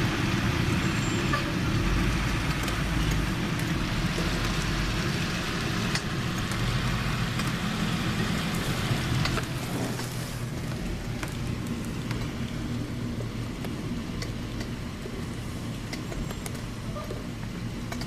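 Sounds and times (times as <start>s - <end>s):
rain hissing: 0.0s - 17.8s
low engine hum: 0.0s - 18.0s
traffic on wet pavement: 0.0s - 18.0s.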